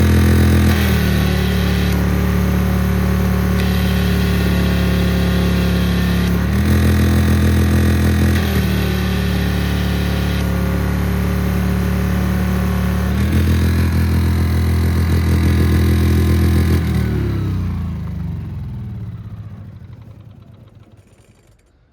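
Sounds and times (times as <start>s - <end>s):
pressure washer engine running: 0.0s - 20.9s.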